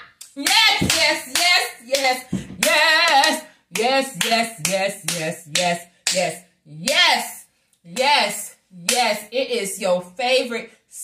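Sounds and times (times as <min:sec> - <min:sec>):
woman chanting syllables: 0:00.4 - 0:10.6.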